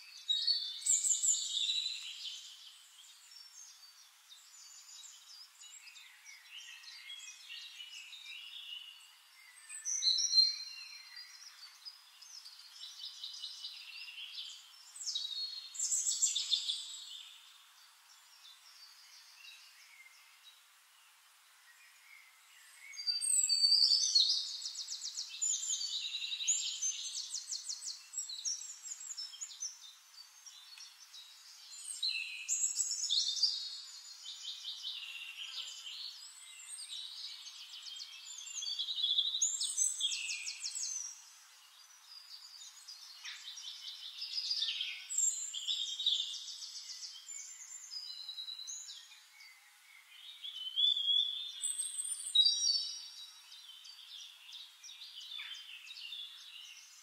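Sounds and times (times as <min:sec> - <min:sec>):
songbird trilling and chirping: 0:00.0 - 0:20.4, 0:21.8 - 0:57.0.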